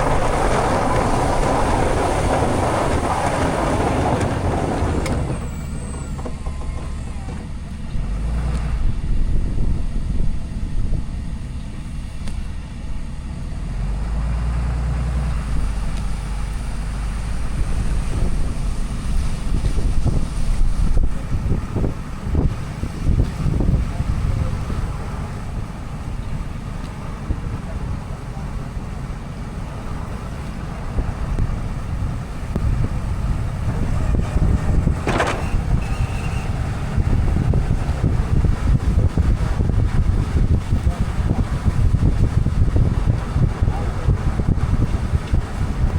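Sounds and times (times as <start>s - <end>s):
diesel pickup engine rumbling: 0.0s - 45.9s.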